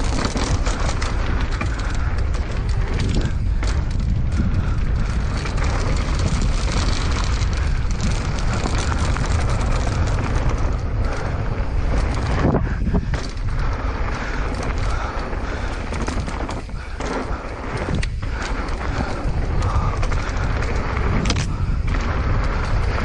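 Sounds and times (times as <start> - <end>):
low rumble: 0.0 - 23.0
wind buffeting microphone: 0.0 - 23.0.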